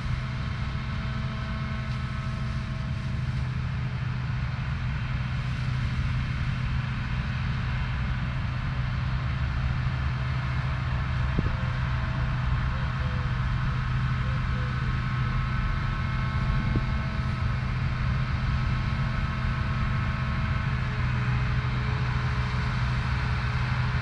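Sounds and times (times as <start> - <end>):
combine harvester low drone: 0.0 - 24.0.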